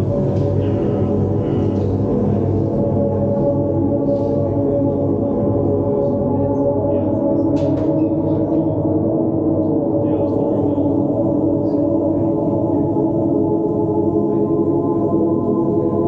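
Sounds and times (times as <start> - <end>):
ambient drone music: 0.0 - 16.0.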